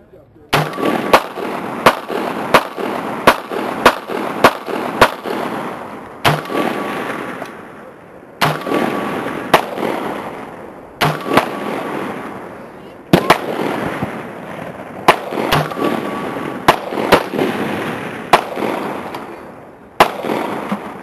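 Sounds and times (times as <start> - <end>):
rifle shots with echo: 0.5 - 21.0.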